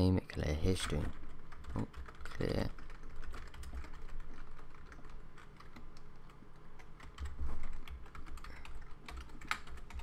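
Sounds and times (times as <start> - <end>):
keyboard typing: 0.7 - 10.0.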